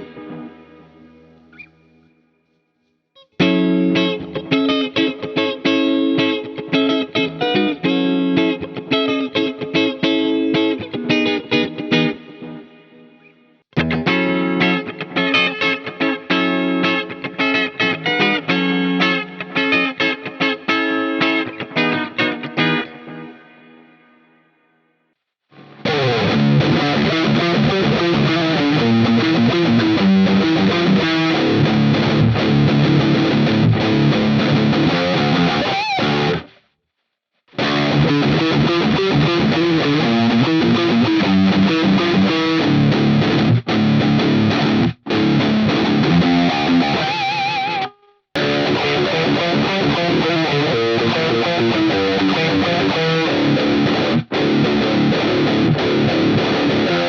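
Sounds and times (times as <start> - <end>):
distorted electric guitar riffs: 0.0 - 2.4, 3.2 - 24.0, 25.5 - 36.8, 37.5 - 57.0.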